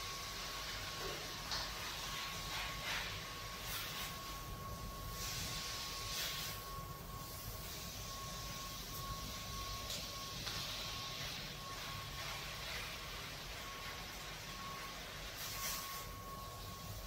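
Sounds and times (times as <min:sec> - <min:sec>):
food sizzling in a wok: 0:00.0 - 0:17.0
thin high whine: 0:00.0 - 0:17.0.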